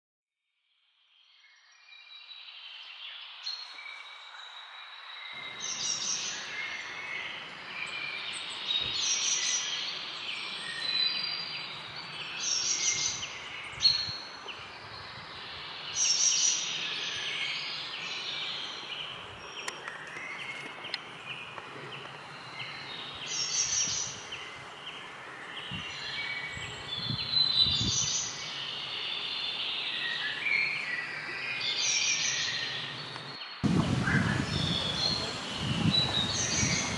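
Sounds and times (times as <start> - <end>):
birds chirping and singing: 2.2 - 36.9.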